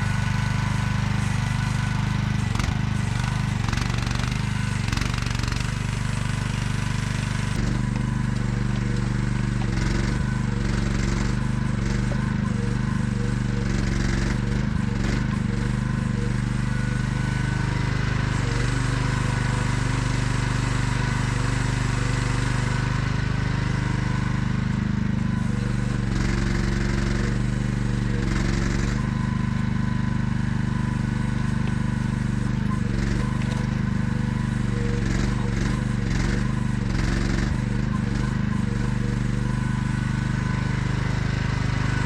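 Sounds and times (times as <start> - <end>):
mini excavator engine running: 0.0 - 42.0.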